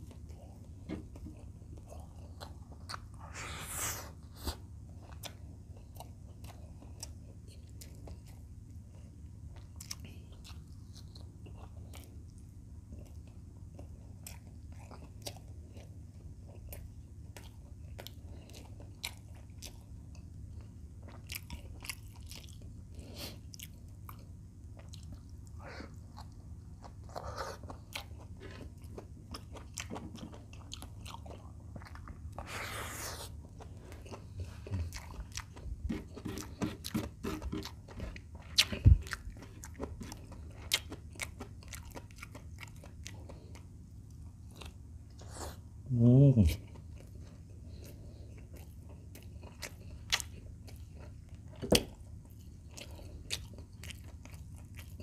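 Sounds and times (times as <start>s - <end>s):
wet chewing clicks and smacks: 0.0s - 3.2s, 4.9s - 32.5s, 33.4s - 44.9s, 46.5s - 55.0s.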